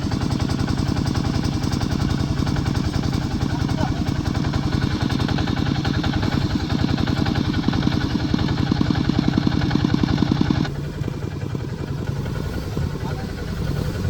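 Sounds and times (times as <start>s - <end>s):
tractor engine chugging: 0.0s - 14.0s.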